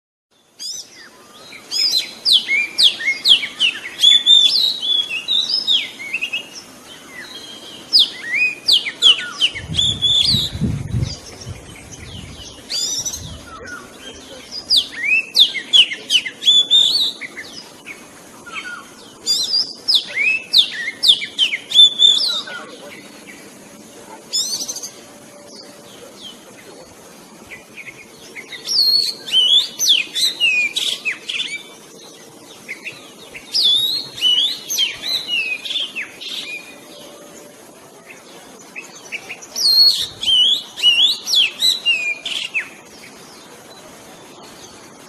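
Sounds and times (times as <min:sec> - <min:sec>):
bird singing whistled notes: 0:00.4 - 0:23.4, 0:24.3 - 0:26.4, 0:27.5 - 0:37.5, 0:38.1 - 0:43.5.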